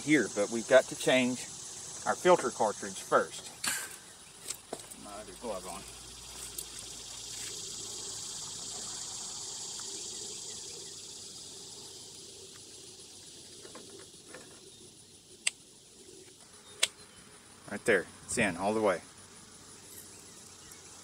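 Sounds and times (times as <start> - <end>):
insect chorus chirring: 0.0 - 21.0.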